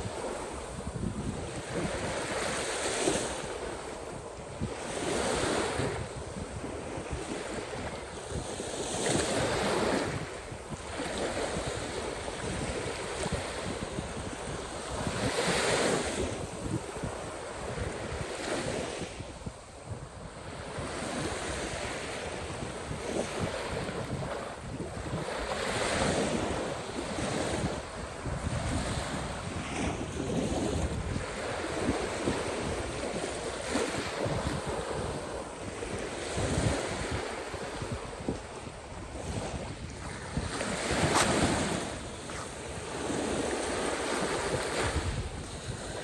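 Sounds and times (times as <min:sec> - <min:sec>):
waves washing onto shore: 0:00.0 - 0:46.0
wind buffeting microphone: 0:00.0 - 0:46.0.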